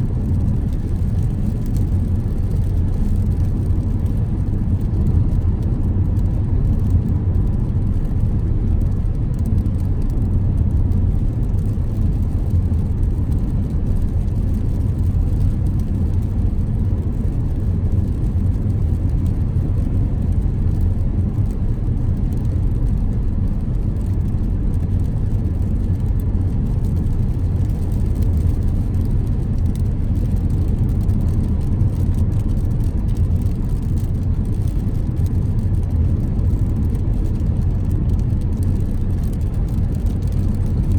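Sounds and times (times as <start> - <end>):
car driving on wet road: 0.0 - 40.9.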